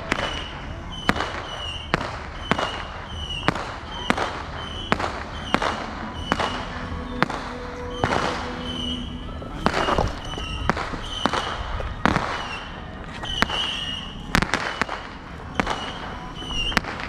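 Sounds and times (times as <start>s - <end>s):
fireworks banging: 0.0s - 17.0s.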